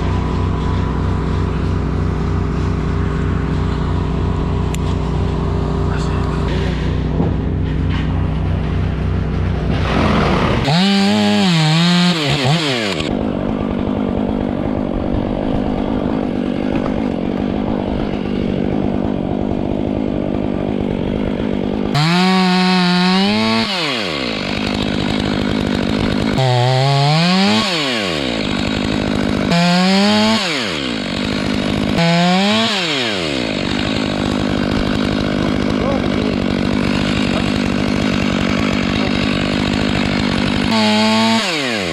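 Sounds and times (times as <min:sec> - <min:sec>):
chainsaw revving and cutting: 0:00.0 - 0:41.9.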